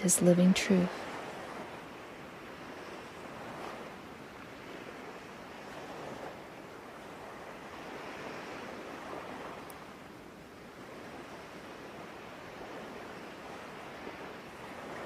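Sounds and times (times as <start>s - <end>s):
ocean waves washing: 0.0s - 15.0s.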